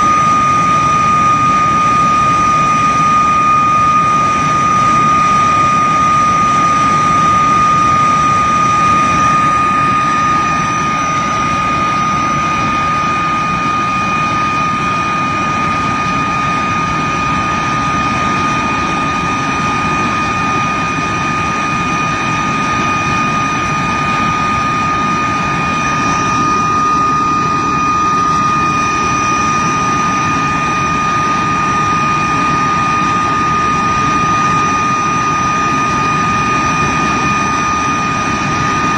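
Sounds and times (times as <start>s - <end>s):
jet engine whine and roar: 0.0s - 38.9s.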